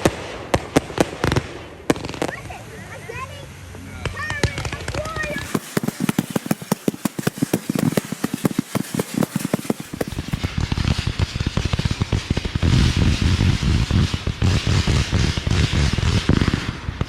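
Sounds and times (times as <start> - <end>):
fireworks barrage: 0.0 - 17.0
fireworks crackling: 0.0 - 17.0.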